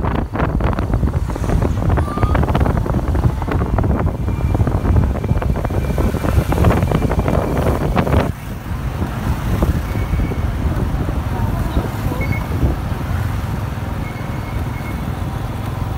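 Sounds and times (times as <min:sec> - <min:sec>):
wind buffeting microphone: 0:00.0 - 0:14.0
motorbike traffic: 0:00.0 - 0:15.9
scooter engine rumble: 0:00.0 - 0:15.9.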